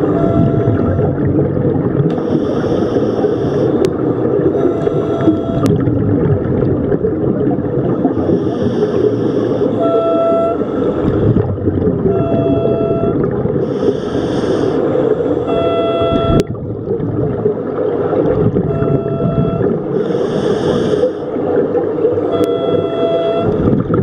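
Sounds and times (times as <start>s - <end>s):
exhaled bubbles underwater: 0.0s - 24.0s.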